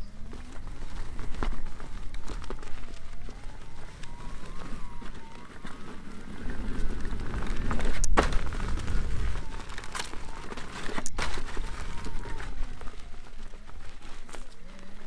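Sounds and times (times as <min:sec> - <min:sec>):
electric motor whine: 0:00.0 - 0:15.0
tyre crunching on gravel: 0:00.0 - 0:15.0.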